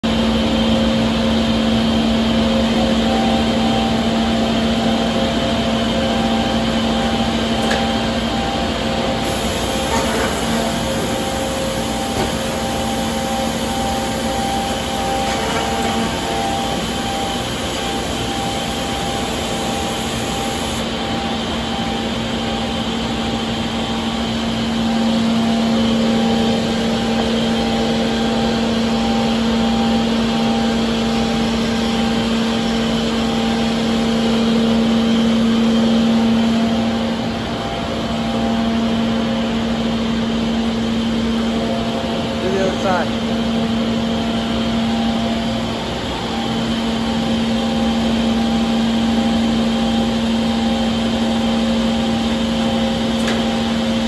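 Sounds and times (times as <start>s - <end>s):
machine mechanical hum: 0.0s - 54.0s.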